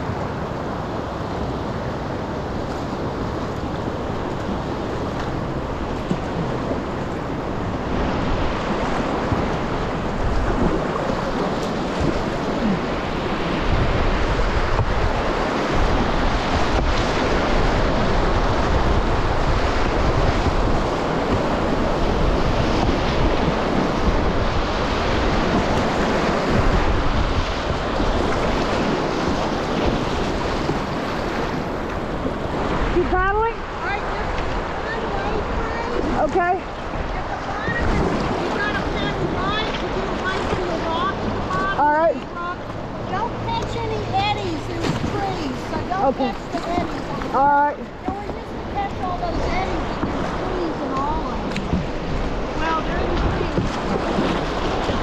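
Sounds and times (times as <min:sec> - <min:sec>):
river whitewater rushing: 0:00.0 - 0:55.0
wind buffeting microphone: 0:00.0 - 0:55.0.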